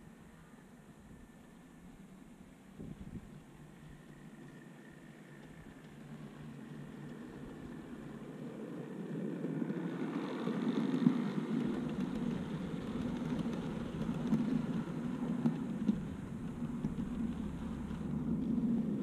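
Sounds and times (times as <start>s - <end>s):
model train wheels rumbling: 0.0s - 19.0s.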